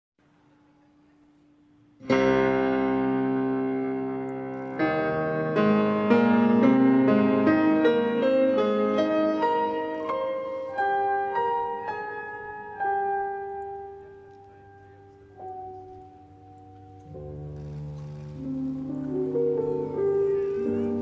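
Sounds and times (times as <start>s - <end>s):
solo classical piano: 2.0s - 21.0s.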